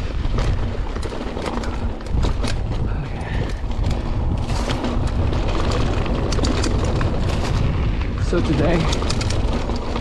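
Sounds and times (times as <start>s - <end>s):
bike clicks and rattles: 0.0s - 10.0s
wind buffeting microphone: 0.0s - 10.0s.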